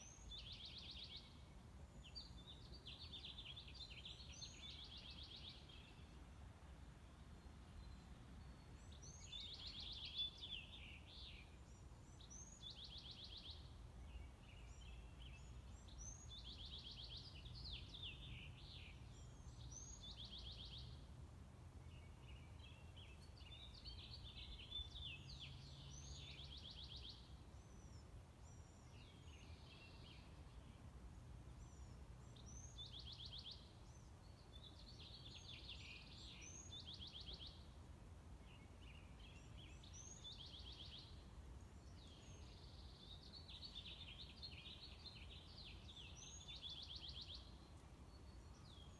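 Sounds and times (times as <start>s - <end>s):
songbird singing with trills: 0.0s - 6.2s, 7.2s - 21.1s, 21.8s - 37.8s, 38.4s - 48.9s.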